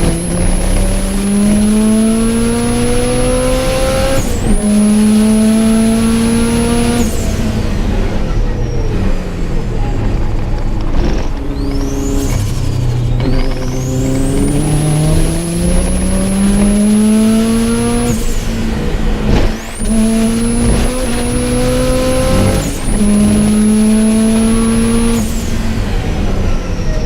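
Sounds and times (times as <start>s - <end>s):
car engine at full throttle: 0.0s - 27.0s
high whine: 0.0s - 27.0s.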